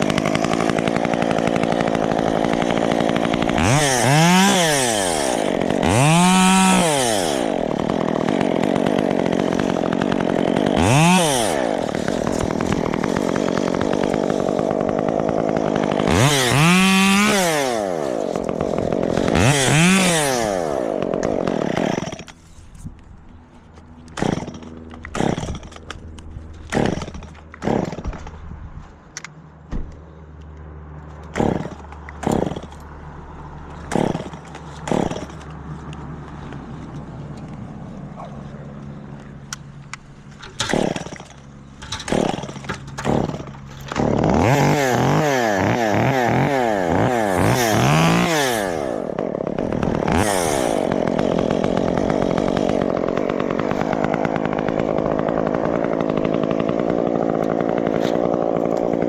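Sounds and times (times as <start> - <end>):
chainsaw idling and revving: 0.0 - 22.5, 23.6 - 28.4, 31.2 - 59.0.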